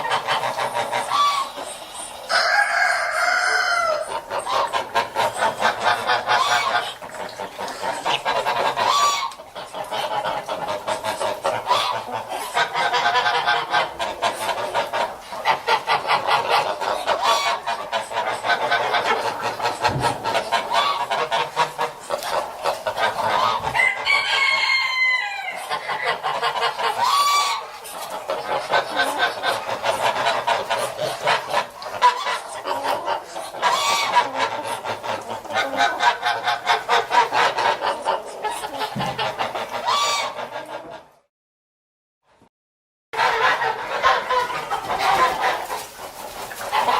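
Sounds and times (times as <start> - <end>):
geese honking and cackling: 0.0 - 41.3, 43.2 - 46.9.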